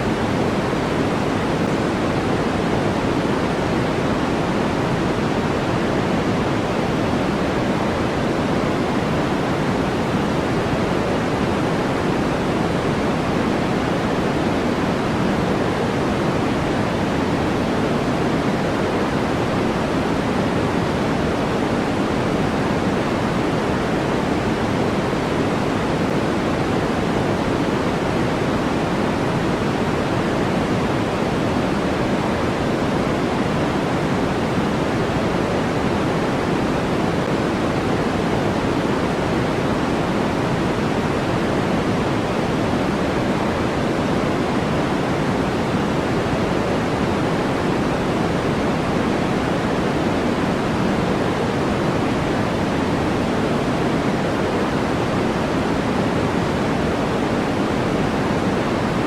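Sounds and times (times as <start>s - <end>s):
steady pink noise: 0.0s - 59.0s.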